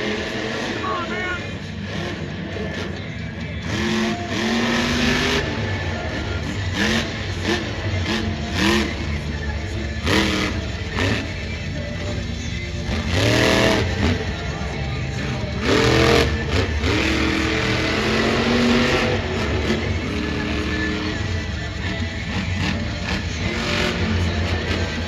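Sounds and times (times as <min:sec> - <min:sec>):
truck engine revving in blasts: 0:00.0 - 0:25.0.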